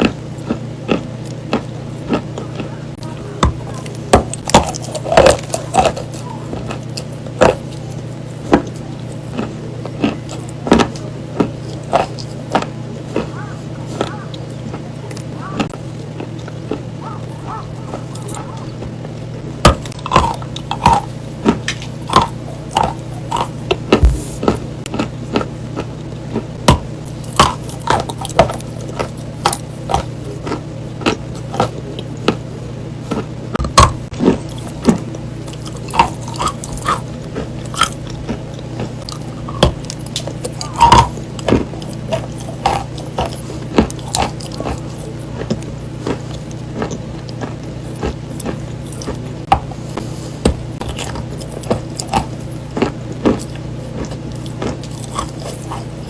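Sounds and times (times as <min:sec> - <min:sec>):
chewing crunches: 0:00.0 - 0:56.0
low hum: 0:00.0 - 0:56.0.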